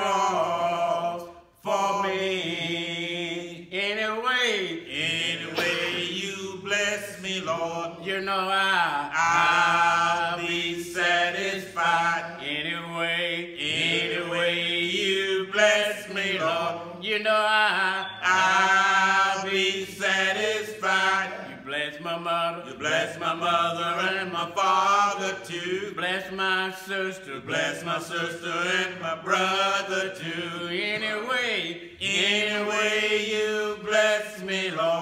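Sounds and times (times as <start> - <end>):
men singing a gospel hymn: 0.0 - 35.0.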